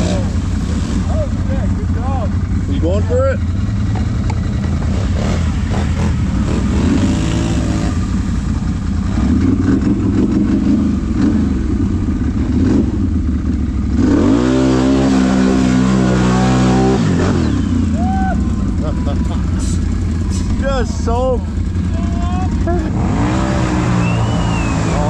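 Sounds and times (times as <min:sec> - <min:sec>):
atv engine revving: 0:00.0 - 0:25.0.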